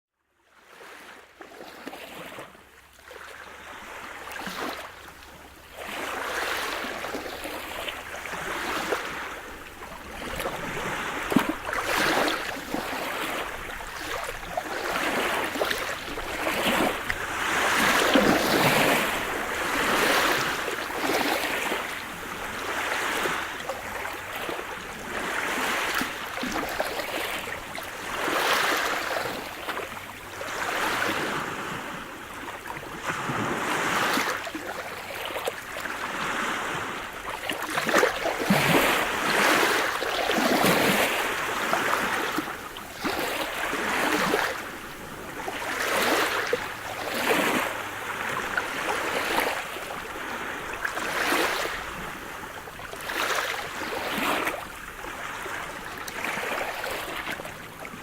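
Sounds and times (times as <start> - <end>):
waves breaking on shore: 0.6 - 58.0.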